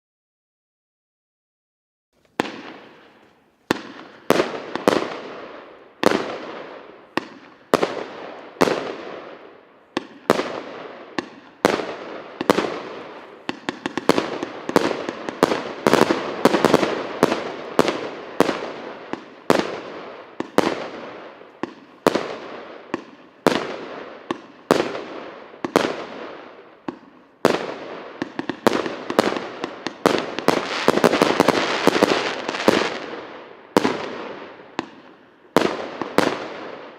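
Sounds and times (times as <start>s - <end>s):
fireworks firing with crackling: 2.2s - 36.9s.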